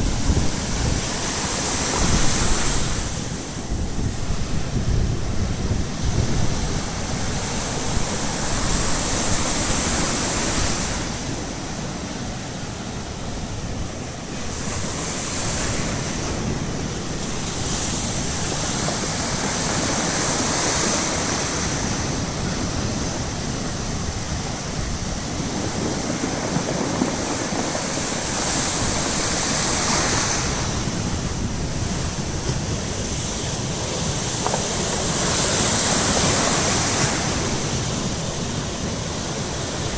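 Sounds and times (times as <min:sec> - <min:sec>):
surf breaking on the shore: 0:00.0 - 0:39.9
wind rumbling on microphone: 0:00.0 - 0:39.9.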